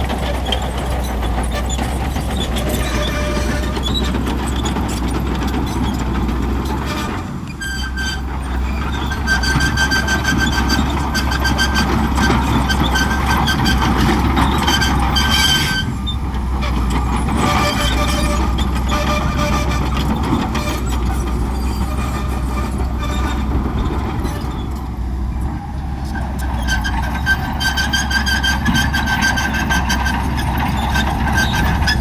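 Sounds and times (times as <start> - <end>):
bulldozer engine drone: 0.0 - 32.0
steel tracks clanking and squealing: 0.0 - 32.0.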